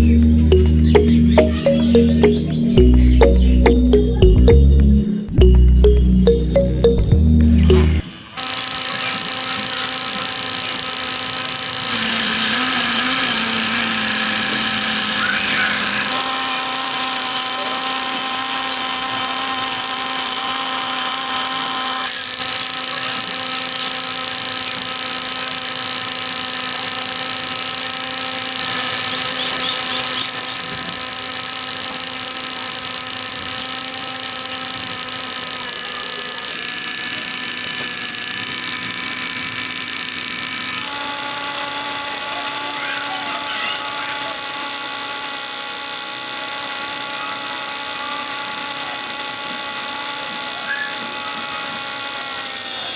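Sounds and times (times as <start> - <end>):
small electric motors whining: 0.0 - 52.9.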